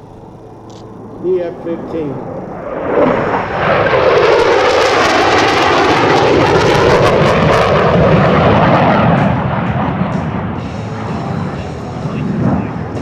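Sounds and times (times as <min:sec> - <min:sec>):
jet roar flying past: 0:00.0 - 0:13.0.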